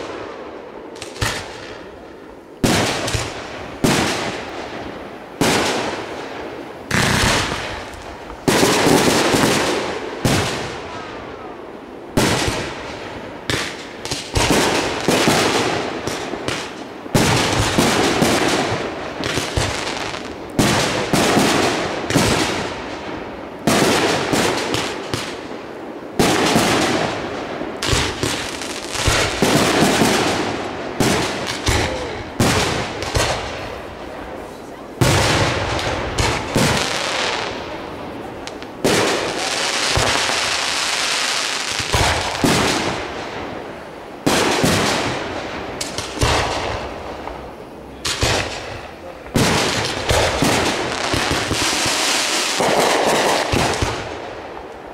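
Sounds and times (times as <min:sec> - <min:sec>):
fireworks bursting with sharp bangs: 0:00.0 - 0:54.9.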